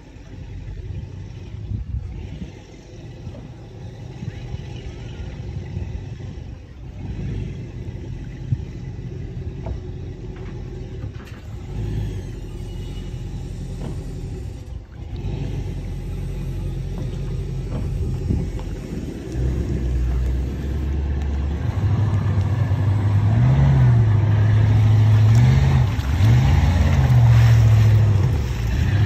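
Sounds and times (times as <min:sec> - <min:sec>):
motorboat engine rumbling: 0:00.0 - 0:29.0.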